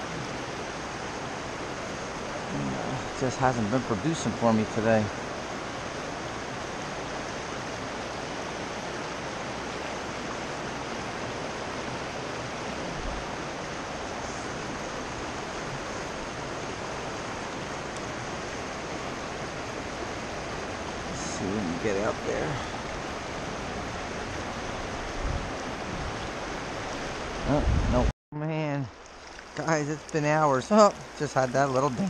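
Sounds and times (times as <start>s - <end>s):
water rushing over rocks: 0.0s - 28.1s, 28.9s - 32.0s.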